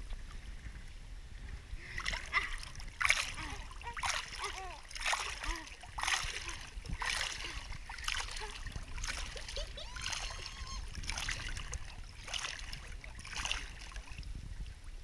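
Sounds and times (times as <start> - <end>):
pool water splashing: 1.5 - 15.0.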